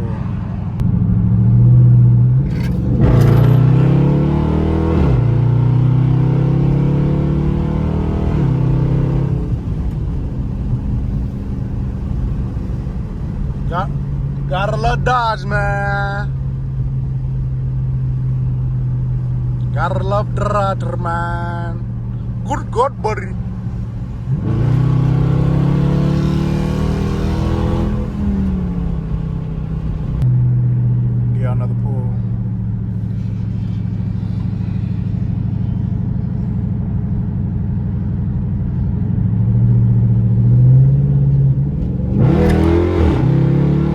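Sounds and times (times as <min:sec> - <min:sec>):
car engine accelerating hard: 0:00.0 - 0:43.9
exhaust rumble while coasting: 0:00.0 - 0:43.9.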